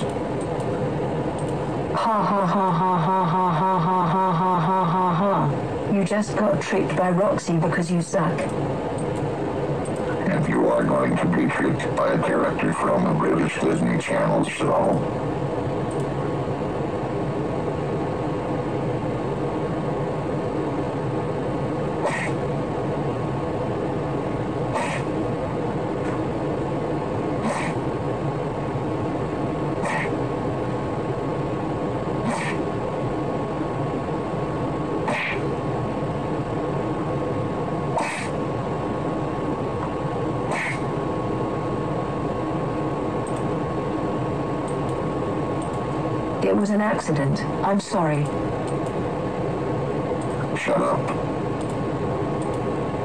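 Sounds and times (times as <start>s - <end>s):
electronic static buzzing drone: 0.0s - 53.0s.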